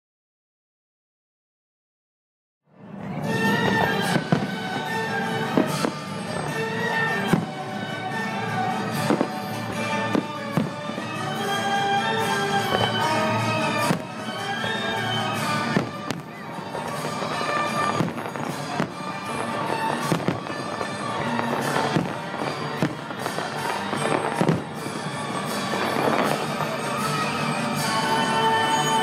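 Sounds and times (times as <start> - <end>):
music: 2.7 - 29.0
fireworks bursting with bangs: 3.2 - 29.0.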